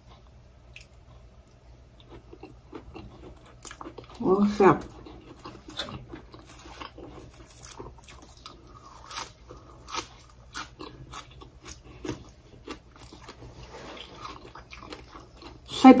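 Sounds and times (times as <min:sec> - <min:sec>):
chewing and crunching greens: 0:00.0 - 0:16.0.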